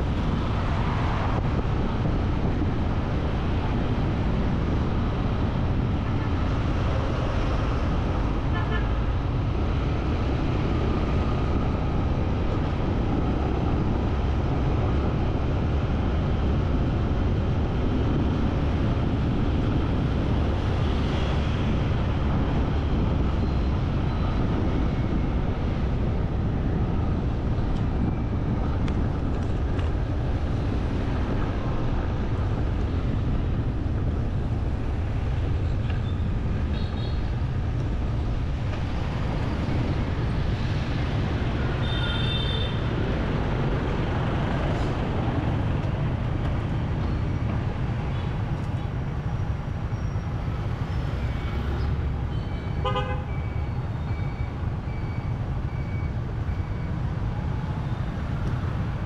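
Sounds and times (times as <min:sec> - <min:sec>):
vehicle road noise rumble: 0:00.0 - 0:59.0.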